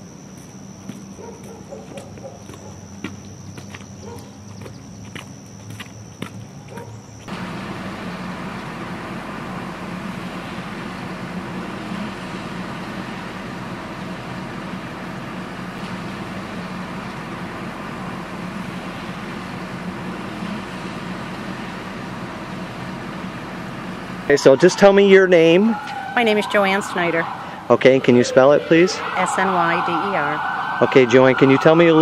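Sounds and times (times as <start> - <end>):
motor vehicle engine drone: 0.0 - 32.0.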